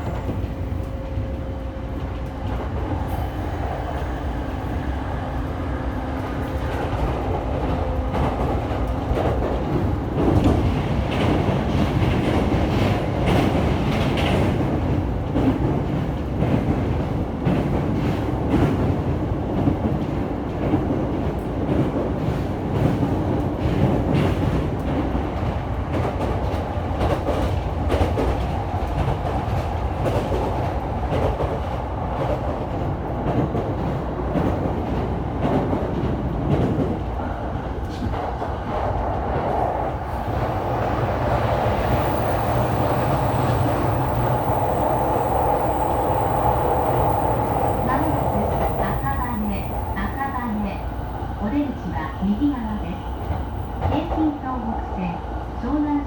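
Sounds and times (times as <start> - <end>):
clickety-clack of rail joints: 0.0 - 56.0
train wheels rumbling on rail: 0.0 - 56.0.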